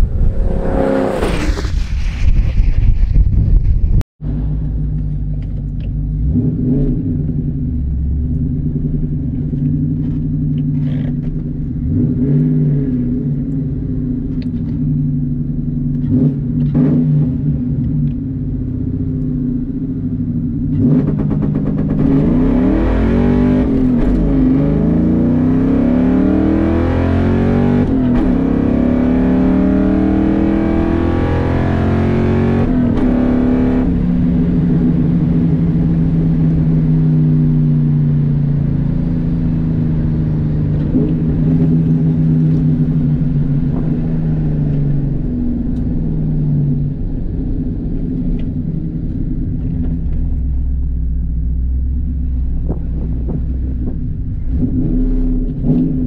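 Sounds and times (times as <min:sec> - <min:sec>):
car engine accelerating: 0:00.0 - 0:02.3, 0:04.2 - 0:56.0.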